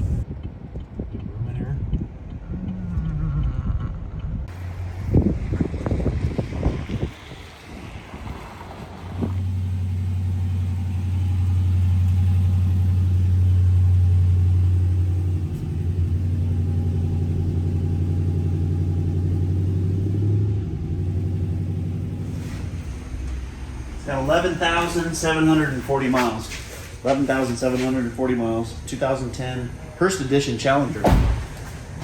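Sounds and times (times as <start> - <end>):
car engine starting and idling: 2.2 - 32.0.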